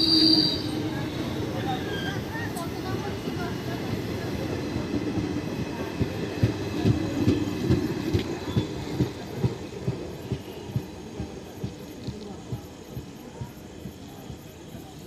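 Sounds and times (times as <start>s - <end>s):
low rumble of train coaches: 0.0s - 15.0s.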